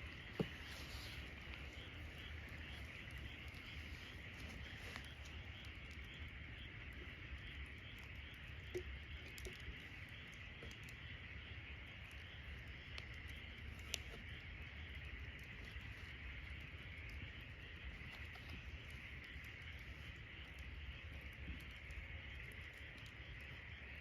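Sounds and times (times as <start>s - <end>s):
campfire crackling: 0.0s - 24.0s
insects chirring: 0.0s - 24.0s.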